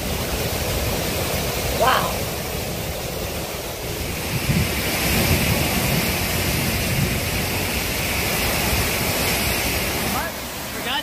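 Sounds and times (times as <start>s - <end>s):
strong wind blowing: 0.0s - 11.0s
wind buffeting microphone: 0.0s - 11.0s.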